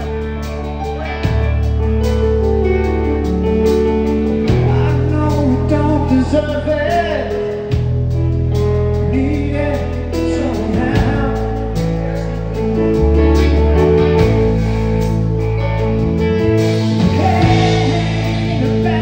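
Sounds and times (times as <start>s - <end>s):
electric guitar lead: 0.0s - 19.0s
rock band playing slow song: 0.0s - 19.0s.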